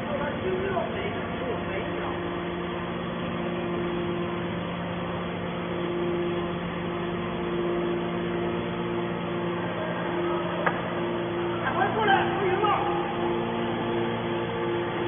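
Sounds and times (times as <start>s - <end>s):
higher machine tone: 0.0s - 15.0s
hydraulic power unit hum: 0.0s - 15.0s.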